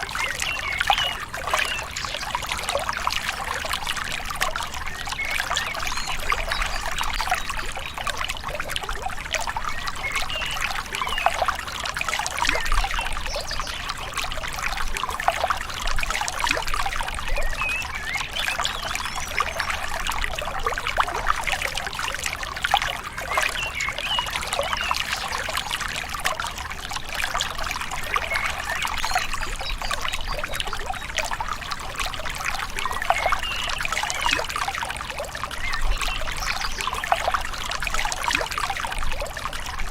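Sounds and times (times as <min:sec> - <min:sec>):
river babbling and trickling: 0:00.0 - 0:39.9.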